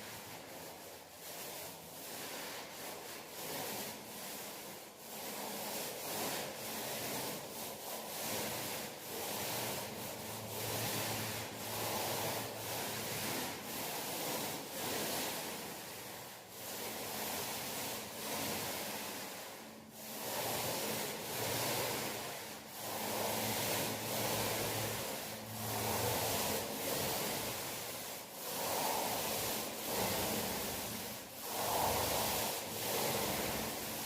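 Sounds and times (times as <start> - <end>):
paint roller swishing on wall: 0.0 - 34.0.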